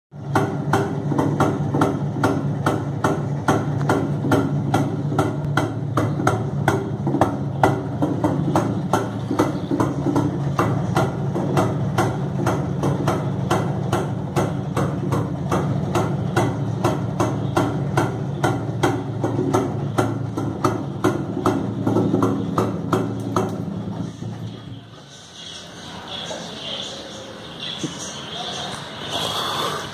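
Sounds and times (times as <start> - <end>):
motorcycle engine idling: 0.2 - 25.5.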